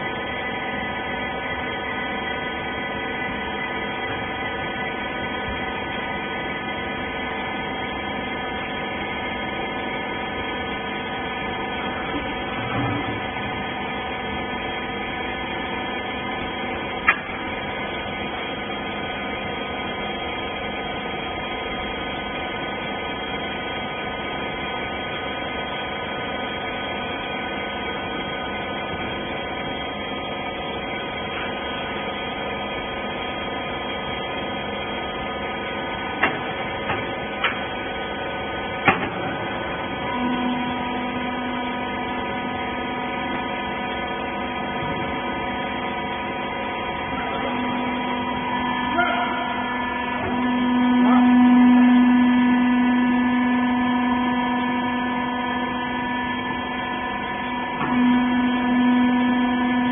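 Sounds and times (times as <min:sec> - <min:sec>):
baler mechanical hum: 0:00.0 - 0:59.9.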